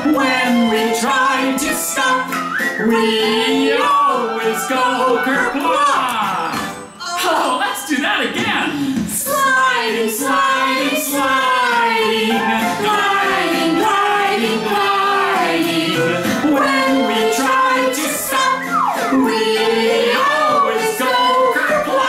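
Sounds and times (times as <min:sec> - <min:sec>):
person singing children's song: 0:00.0 - 0:06.8, 0:09.3 - 0:22.0.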